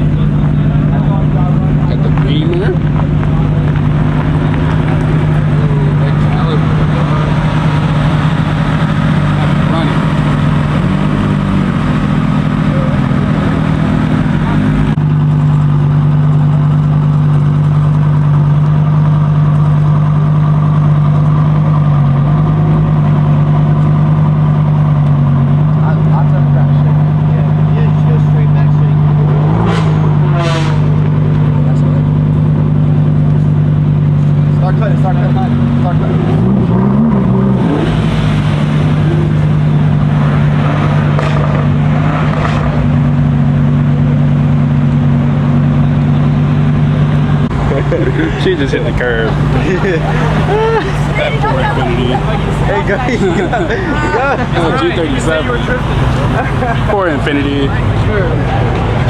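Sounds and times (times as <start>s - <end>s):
car engine idling: 0.0s - 59.0s
passing traffic: 0.0s - 59.0s.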